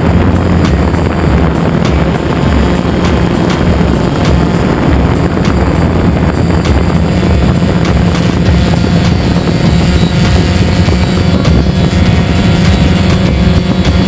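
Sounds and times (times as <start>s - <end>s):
drone propellers buzzing: 0.0s - 14.0s
wind noise on microphone: 0.0s - 14.0s.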